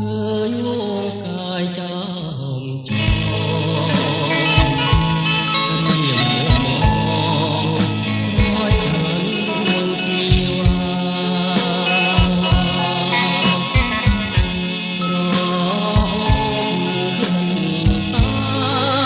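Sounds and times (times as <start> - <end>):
song with drum beat: 3.0 - 19.0.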